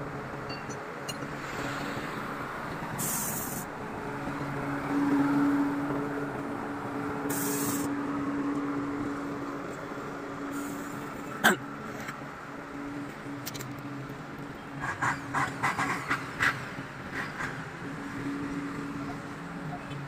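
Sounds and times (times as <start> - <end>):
general site noise: 0.0 - 20.0.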